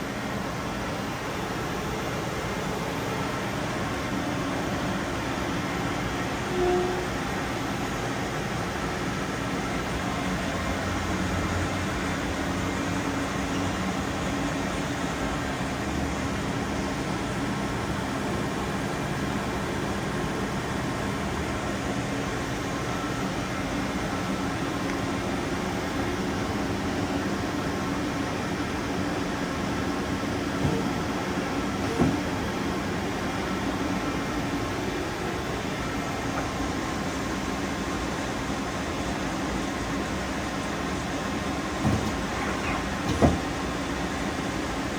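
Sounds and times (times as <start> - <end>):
machine hum with hiss: 0.0 - 44.9.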